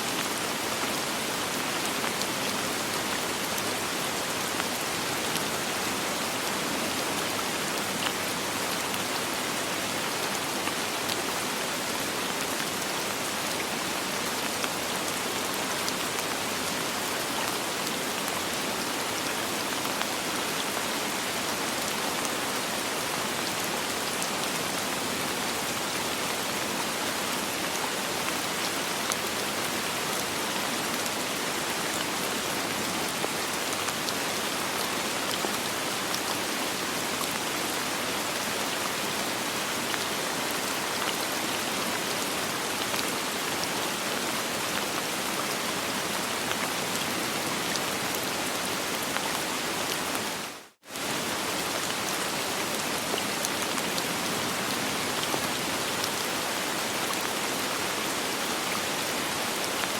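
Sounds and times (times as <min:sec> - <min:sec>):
soft rain: 0:00.0 - 0:59.9.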